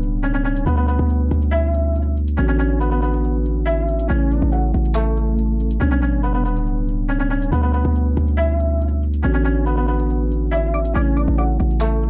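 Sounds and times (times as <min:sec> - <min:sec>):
light ticking beat: 0:00.0 - 0:12.0
plucked guitar-like music: 0:00.0 - 0:12.0.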